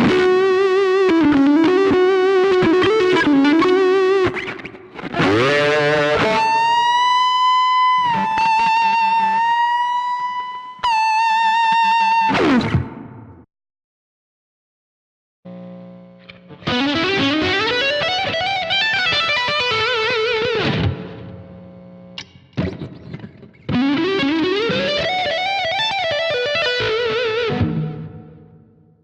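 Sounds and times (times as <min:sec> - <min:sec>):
electric guitar lead phrase: 0:00.0 - 0:13.4, 0:16.2 - 0:21.5, 0:22.2 - 0:28.9.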